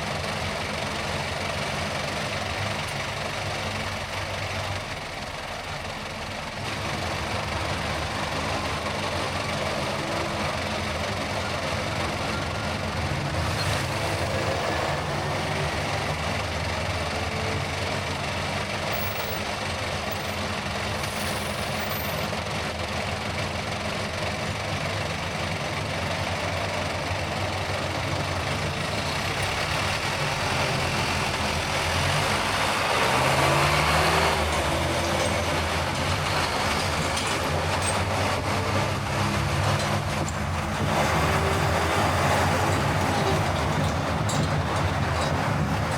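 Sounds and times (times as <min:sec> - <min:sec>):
car engine: 0:00.0 - 0:45.9
road noise: 0:00.0 - 0:45.9.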